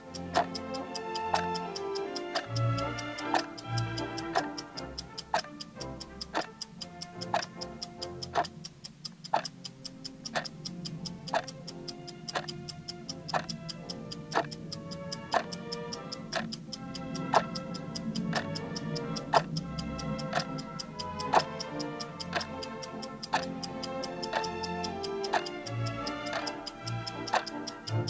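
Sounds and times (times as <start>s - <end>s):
clock ticking: 0.0s - 28.0s
soft music: 0.0s - 28.0s.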